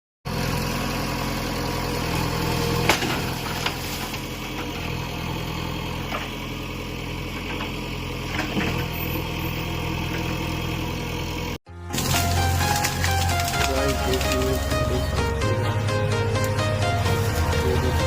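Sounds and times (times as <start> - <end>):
backhoe diesel engine running: 0.3 - 18.0.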